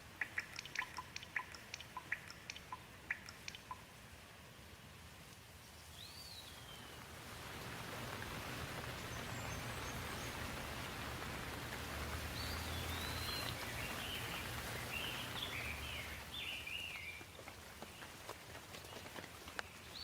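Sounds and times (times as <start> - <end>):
songbird singing: 0.0 - 4.6, 5.5 - 20.0
steady rain hiss: 0.0 - 20.0.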